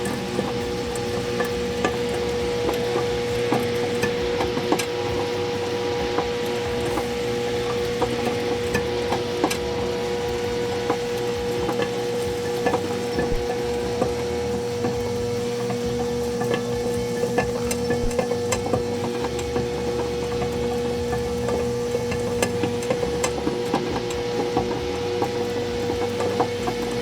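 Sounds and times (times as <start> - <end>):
microwave oven humming: 0.0 - 27.0
sharp crackles and ticks: 0.0 - 27.0.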